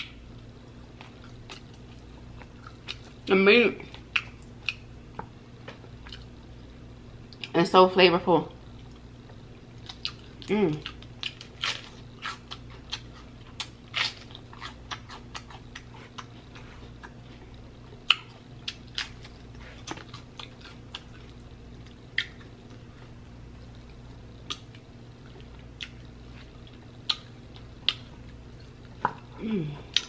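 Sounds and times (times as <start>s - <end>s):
faint low hum: 0.0s - 30.0s
chewing crisp lettuce: 0.7s - 4.9s, 9.7s - 30.0s.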